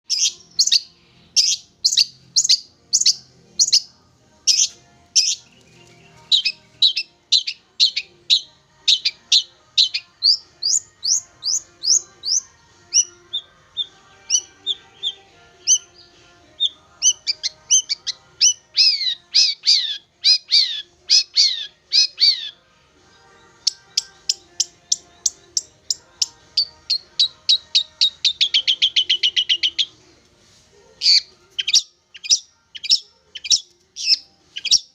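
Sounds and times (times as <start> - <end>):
shrike calling: 4.5 - 22.6, 23.6 - 30.0, 31.0 - 34.9.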